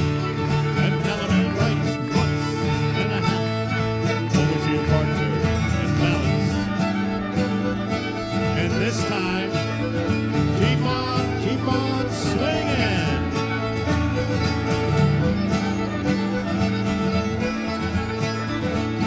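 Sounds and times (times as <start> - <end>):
string band dance tune: 0.0 - 19.0.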